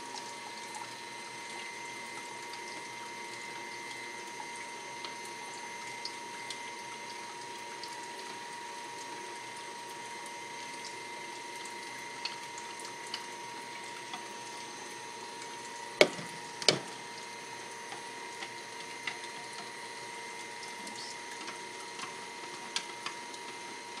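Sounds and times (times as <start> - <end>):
food strainer motor humming: 0.0 - 24.0.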